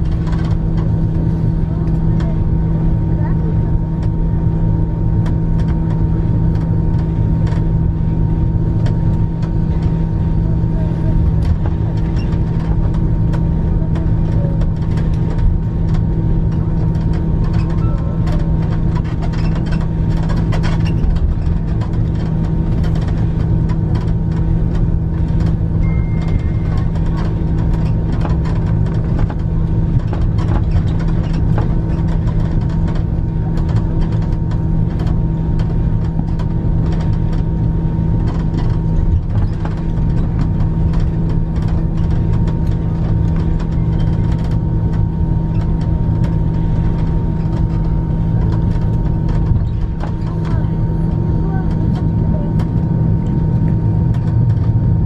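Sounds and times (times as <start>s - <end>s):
aircraft engines humming: 0.0s - 55.0s.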